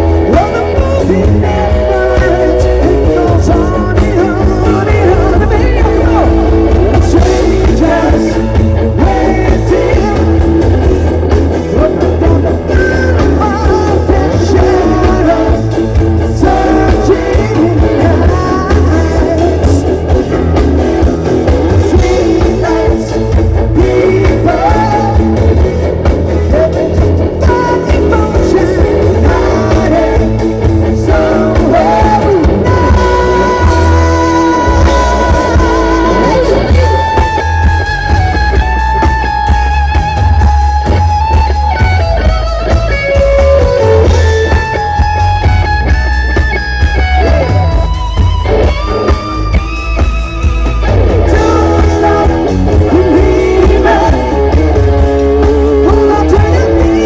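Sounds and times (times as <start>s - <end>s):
lead singer singing: 0.0s - 41.9s, 48.7s - 57.0s
bass guitar: 0.0s - 57.0s
drum kit: 0.0s - 57.0s
electric guitar: 0.0s - 57.0s.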